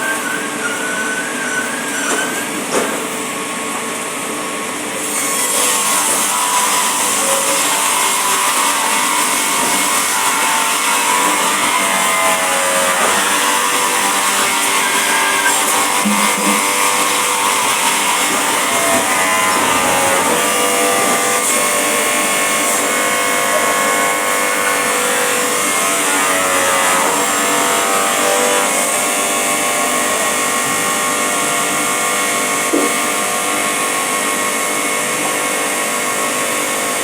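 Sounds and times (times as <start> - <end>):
woodworking power tool running: 0.0 - 37.0.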